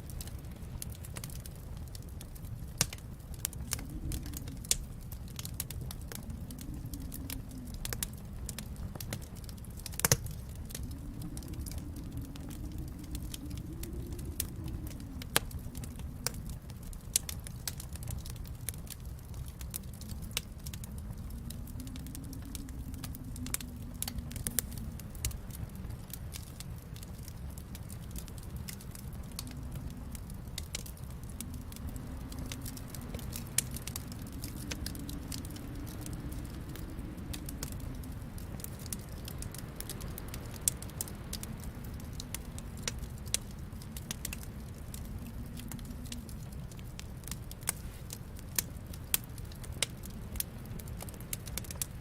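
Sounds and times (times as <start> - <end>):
low rumble: 0.0 - 51.3
fire pops and snaps: 0.0 - 52.0
wood fire crackling: 0.0 - 52.0.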